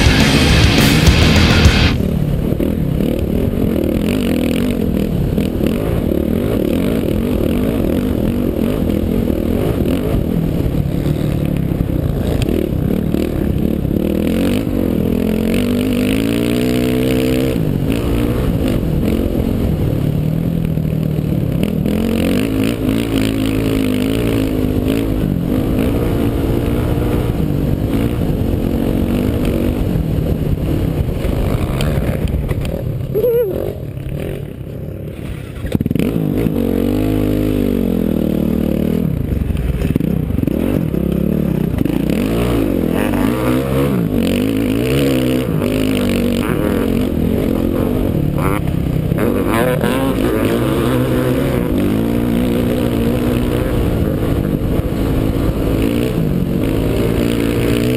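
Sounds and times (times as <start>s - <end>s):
dirt bike engine revving: 0.0s - 57.9s
steady rushing noise: 0.0s - 57.9s.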